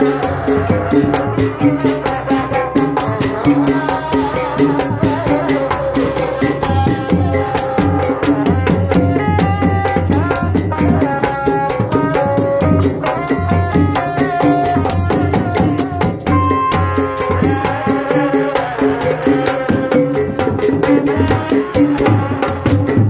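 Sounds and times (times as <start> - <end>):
fast dense drumming: 0.0 - 23.0
stepping melody line: 0.0 - 23.0.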